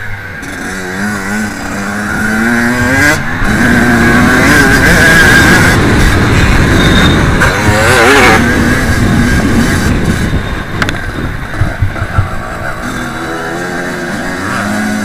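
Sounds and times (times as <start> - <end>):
dirt bike engine revving: 0.4 - 10.7, 11.6 - 15.0.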